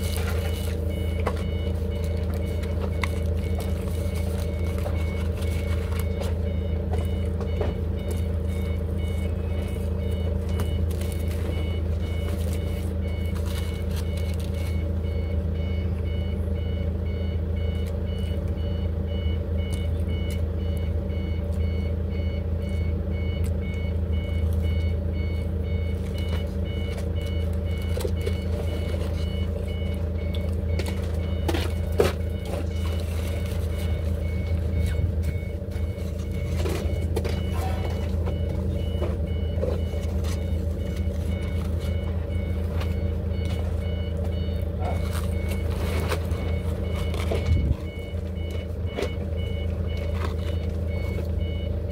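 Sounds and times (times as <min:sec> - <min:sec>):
low machine hum: 0:00.0 - 0:51.9
high electronic beeps: 0:00.4 - 0:51.8.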